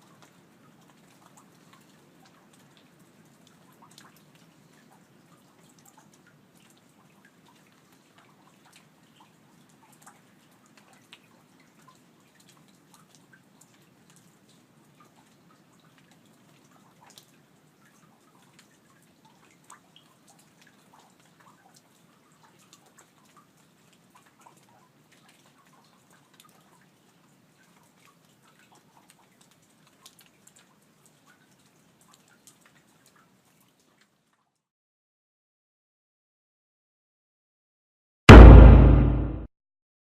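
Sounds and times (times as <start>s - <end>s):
rain drops clicking: 0.0s - 33.3s.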